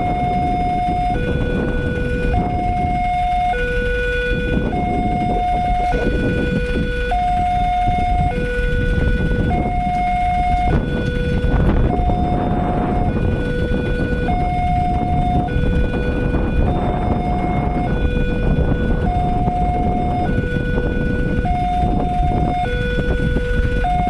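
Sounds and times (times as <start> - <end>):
level crossing alarm tones: 0.0 - 24.0
low traffic rumble: 0.0 - 24.0.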